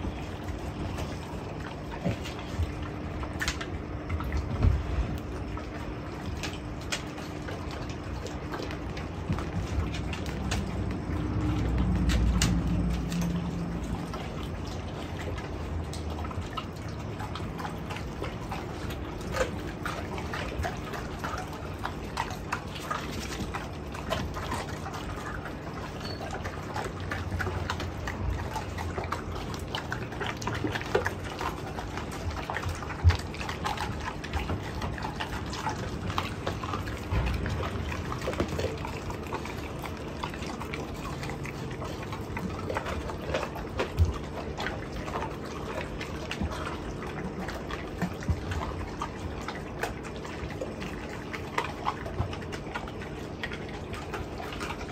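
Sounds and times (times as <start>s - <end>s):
dogs chewing and smacking: 0.0s - 54.9s.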